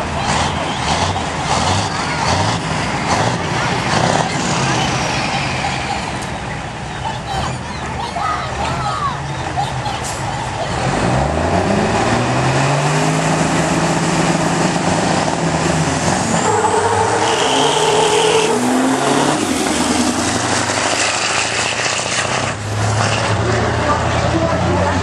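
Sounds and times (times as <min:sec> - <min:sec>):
diesel truck engines accelerating: 0:00.0 - 0:25.0.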